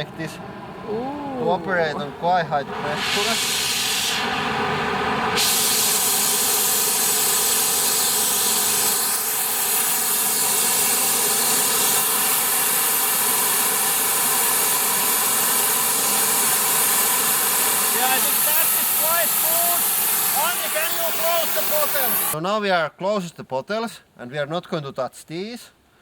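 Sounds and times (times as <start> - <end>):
torch flame hissing: 0.4 - 22.4.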